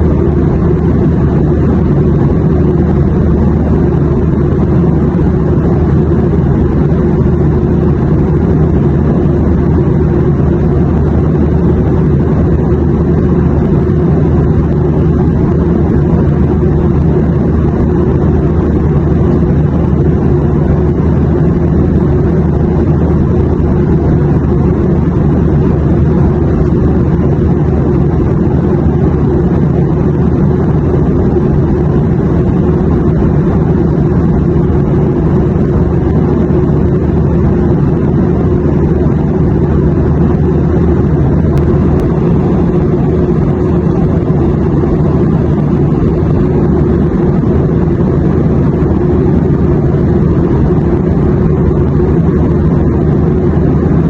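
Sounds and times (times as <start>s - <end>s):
airliner cabin rumble: 0.0s - 54.0s
faint hum: 0.0s - 54.0s.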